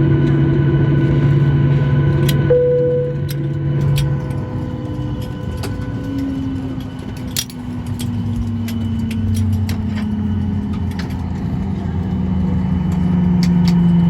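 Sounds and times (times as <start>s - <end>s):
airplane cabin engine hum: 0.0s - 14.0s.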